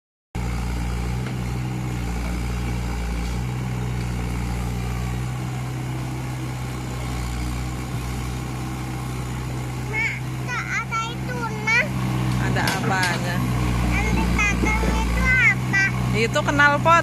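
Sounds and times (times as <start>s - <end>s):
excavator diesel engine humming: 0.4s - 17.0s.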